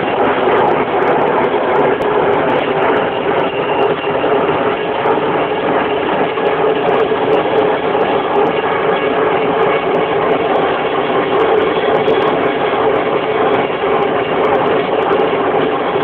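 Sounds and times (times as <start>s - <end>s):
helicopter engine and rotor: 0.0s - 16.0s.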